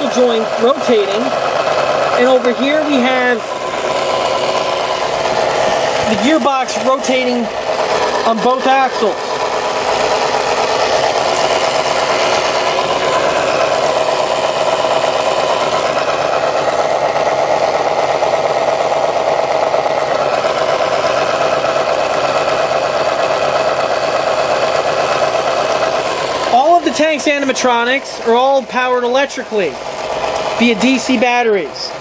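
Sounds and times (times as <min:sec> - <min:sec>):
electric motor and gears whirring: 0:00.0 - 0:32.0.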